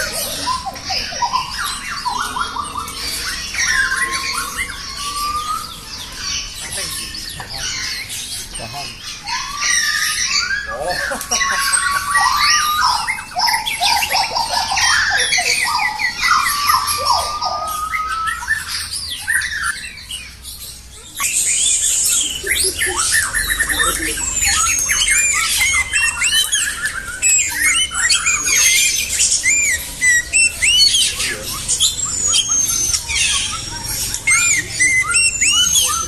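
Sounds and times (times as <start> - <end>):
songbirds singing and calling: 0.0 - 36.0.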